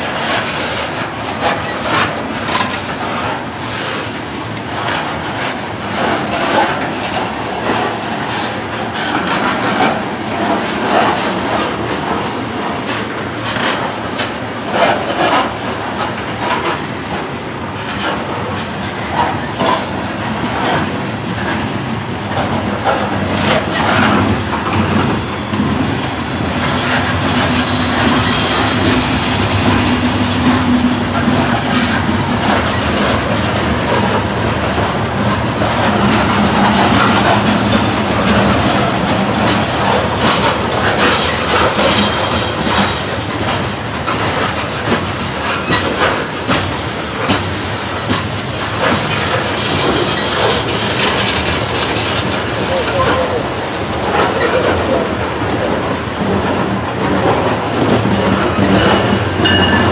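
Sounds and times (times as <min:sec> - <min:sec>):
heavy train rumble: 0:00.0 - 0:59.9
train wheels clattering over rails: 0:00.0 - 0:59.9.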